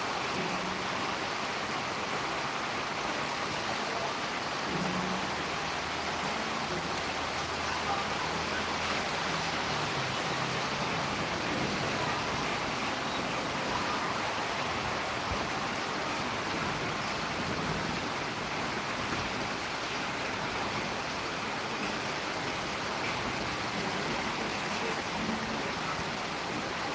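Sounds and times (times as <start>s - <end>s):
rain: 0.0s - 26.9s
wind: 0.0s - 26.9s.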